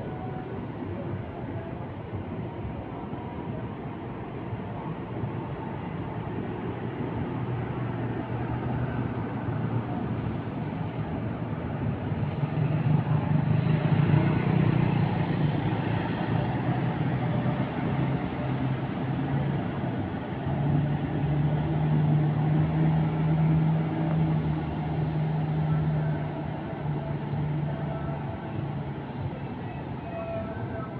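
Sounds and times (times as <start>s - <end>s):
bus diesel engine humming: 0.0s - 30.9s
traffic noise: 0.0s - 30.9s.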